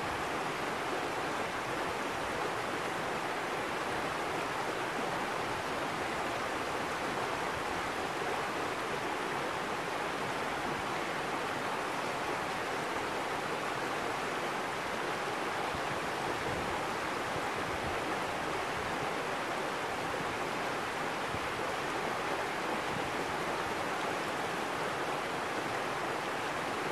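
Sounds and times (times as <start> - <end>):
stream running over rocks: 0.0 - 26.9.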